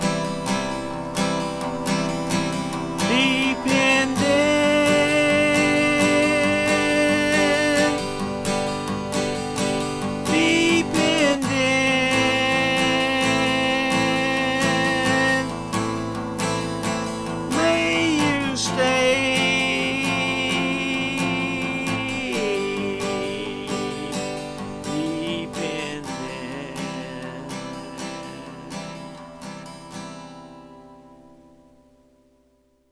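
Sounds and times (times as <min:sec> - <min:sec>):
pitch-bending lead guitar line: 0:00.0 - 0:31.6
acoustic guitar strumming: 0:00.0 - 0:32.8.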